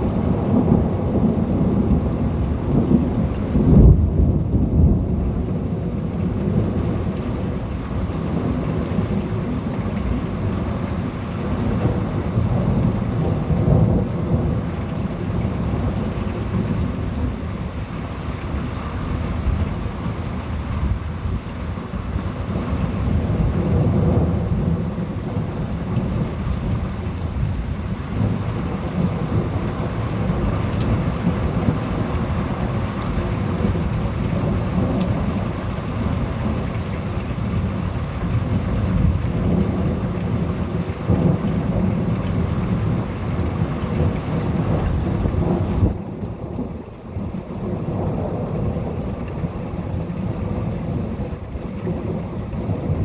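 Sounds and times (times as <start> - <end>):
steady rain: 0.0 - 53.0
thunder rumbling: 0.0 - 53.0.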